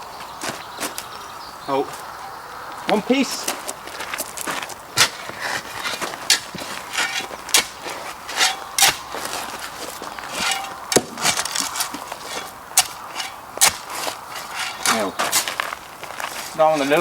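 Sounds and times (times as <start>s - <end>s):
soil crunching and scraping: 3.1s - 17.0s.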